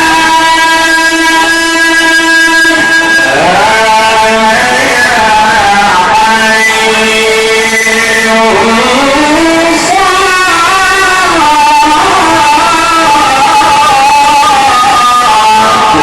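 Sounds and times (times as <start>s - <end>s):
man chanting recitation: 0.0s - 16.0s.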